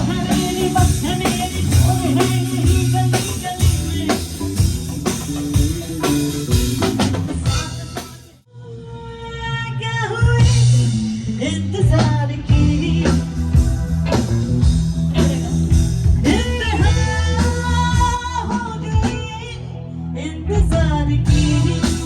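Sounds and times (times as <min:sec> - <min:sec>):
drum kit: 0:00.0 - 0:08.4, 0:10.2 - 0:19.5, 0:20.6 - 0:22.0
person singing: 0:00.0 - 0:14.2, 0:15.1 - 0:22.0
guitar: 0:00.0 - 0:22.0.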